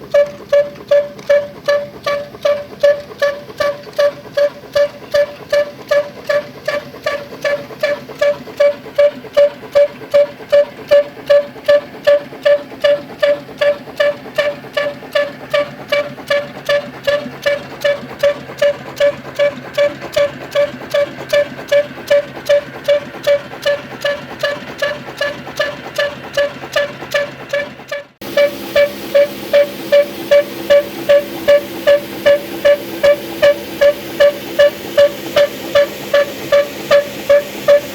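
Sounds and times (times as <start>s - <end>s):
slow stationary engine thudding: 0.0s - 37.9s.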